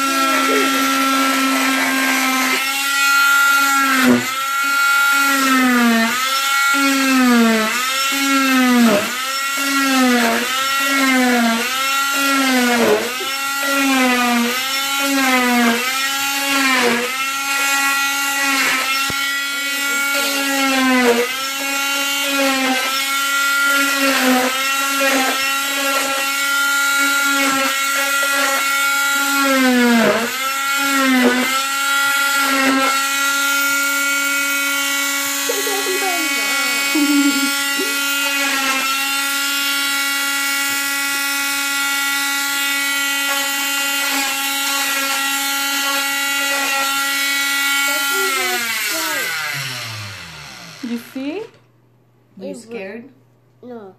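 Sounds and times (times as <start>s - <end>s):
cast saw motor whine: 0.0s - 51.6s.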